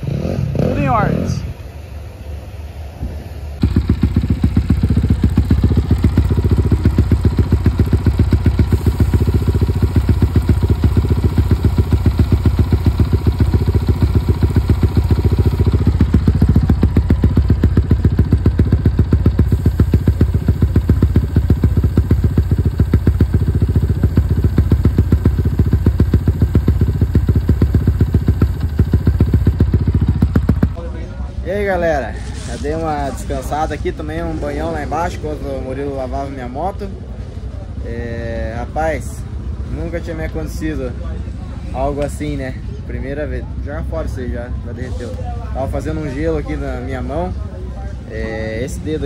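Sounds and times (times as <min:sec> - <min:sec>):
motorcycle engine running: 0:00.0 - 0:02.4, 0:03.4 - 0:49.0.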